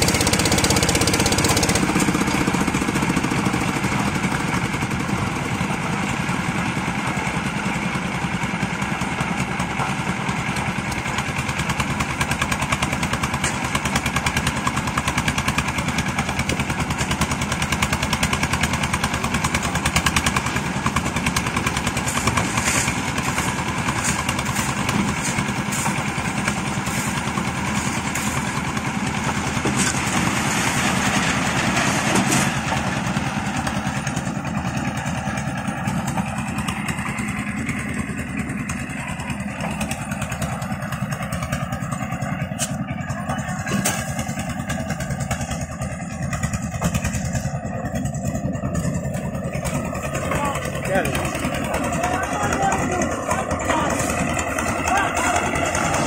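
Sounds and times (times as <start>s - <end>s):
concrete mixer engine running: 0.0s - 56.0s.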